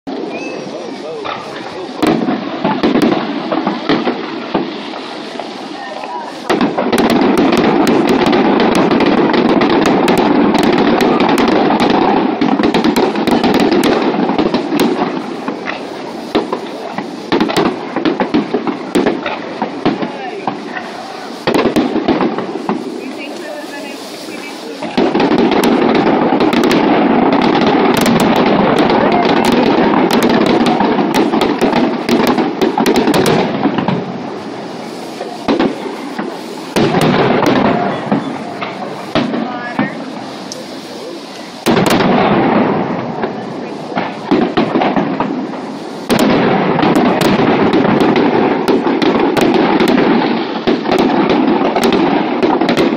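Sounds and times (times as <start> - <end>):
fireworks bursting: 0.0 - 52.9
fireworks crackles and pops: 0.0 - 52.9.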